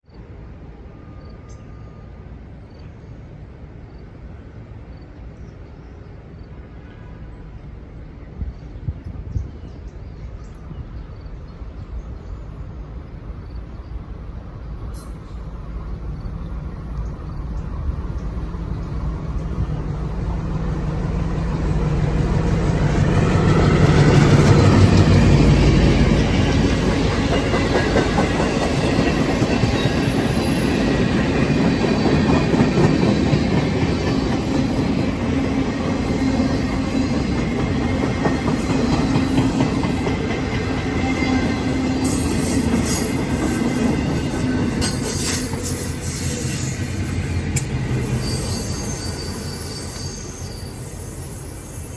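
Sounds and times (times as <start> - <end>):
diesel locomotive engine hum: 0.2 - 51.9.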